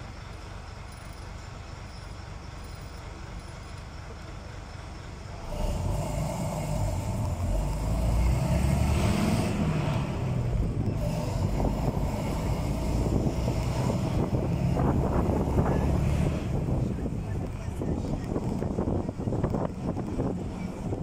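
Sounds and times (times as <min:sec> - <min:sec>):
bus engine: 0:00.0 - 0:21.0
road noise: 0:00.0 - 0:21.0.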